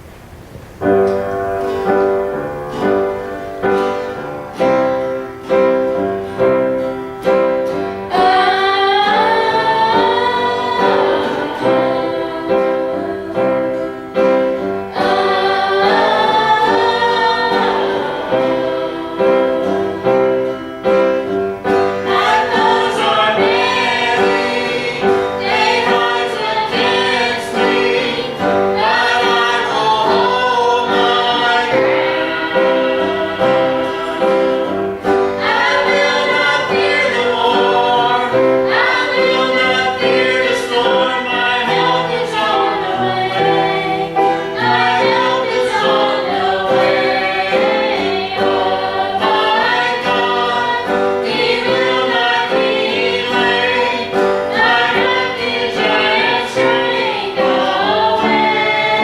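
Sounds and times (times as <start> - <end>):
piano accompaniment: 0.0 - 59.0
group singing gospel song: 2.0 - 59.0.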